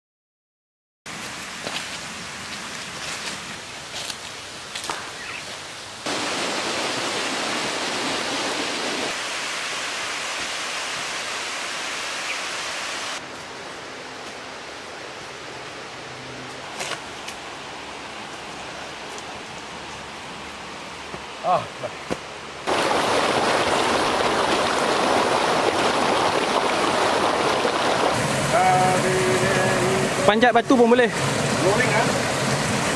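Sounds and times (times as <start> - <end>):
steady outdoor rushing noise: 6.0 - 32.9.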